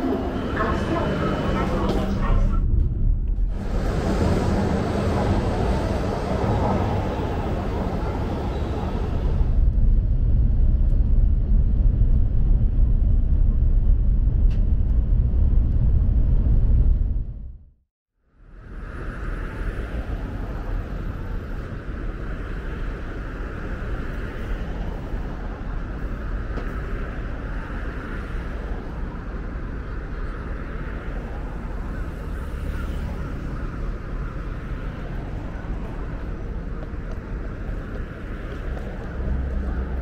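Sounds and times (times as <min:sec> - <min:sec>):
low traffic rumble: 0:00.0 - 0:40.0.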